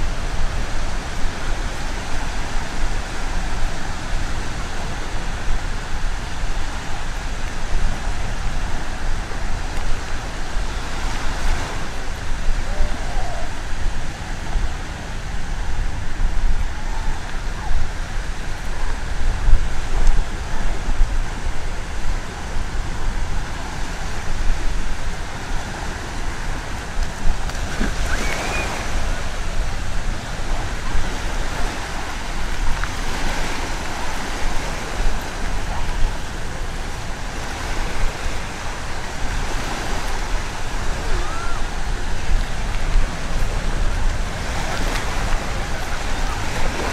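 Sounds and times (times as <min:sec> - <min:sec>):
surf washing ashore: 0:00.0 - 0:46.9
wind buffeting microphone: 0:00.0 - 0:46.9
faint distant voices: 0:02.2 - 0:46.9.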